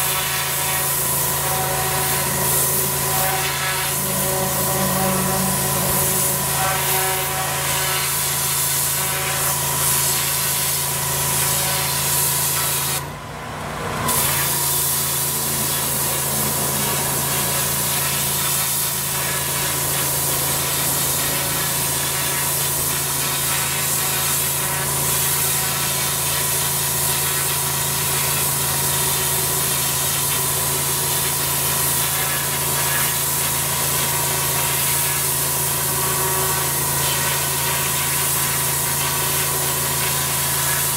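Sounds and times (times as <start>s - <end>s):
water spray hissing on paving: 0.0s - 13.0s, 14.1s - 40.9s
pressure washer humming: 0.0s - 40.9s.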